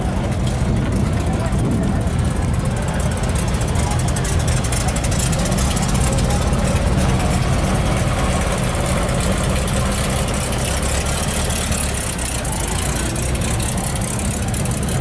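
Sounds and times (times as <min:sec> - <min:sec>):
faint voices: 0:00.0 - 0:15.0
vehicle engines idling: 0:00.0 - 0:15.0.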